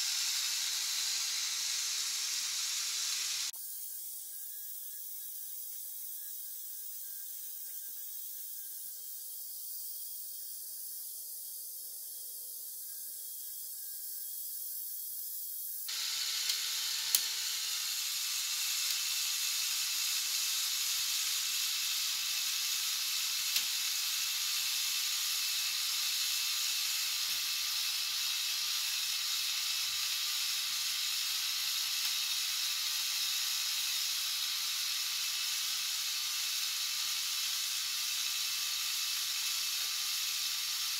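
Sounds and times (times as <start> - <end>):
toy motor and plastic gears whirring: 0.0 - 40.9.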